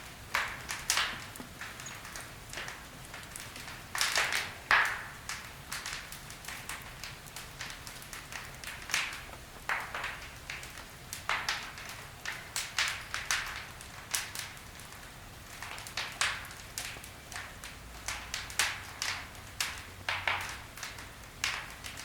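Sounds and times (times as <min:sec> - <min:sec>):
logs crackling in a fire: 0:00.0 - 0:22.0
low steady fire rumble: 0:00.0 - 0:22.0.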